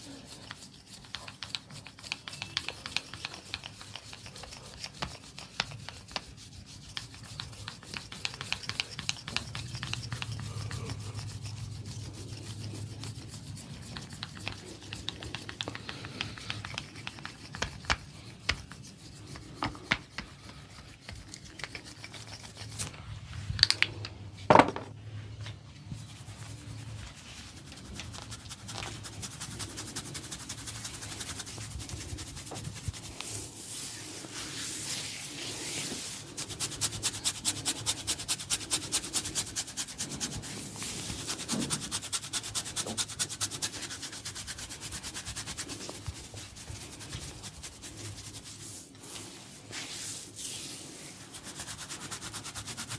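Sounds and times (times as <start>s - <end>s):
hands rubbing oiled scalp: 0.0s - 23.4s, 25.9s - 52.9s.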